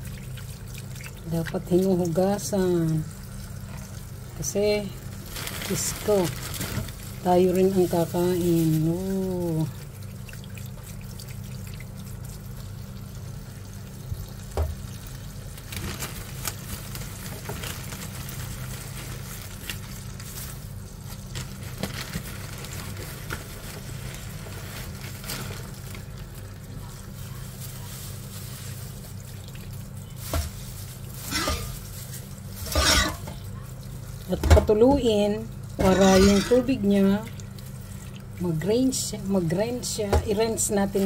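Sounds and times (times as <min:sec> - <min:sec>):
steady low hum: 0:00.0 - 0:41.0
water trickling over leaves: 0:00.0 - 0:41.0.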